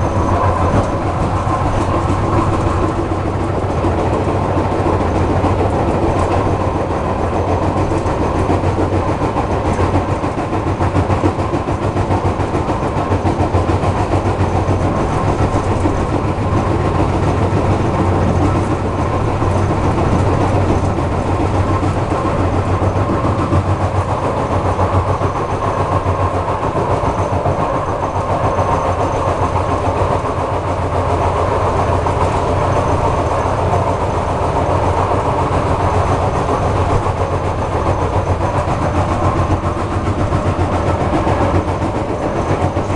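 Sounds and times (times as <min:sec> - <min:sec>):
low steady train hum: 0:00.0 - 0:42.9
rapid knocking from train bogie: 0:00.0 - 0:42.9.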